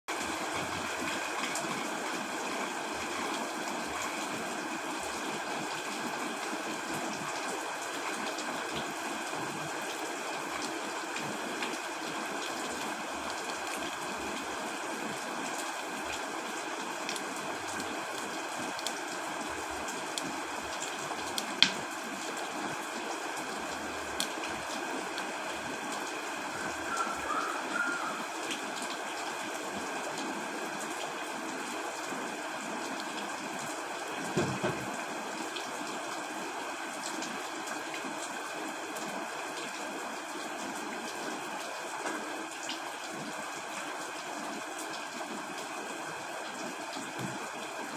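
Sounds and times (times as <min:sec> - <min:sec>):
heavy rain falling: 0:00.1 - 0:47.9.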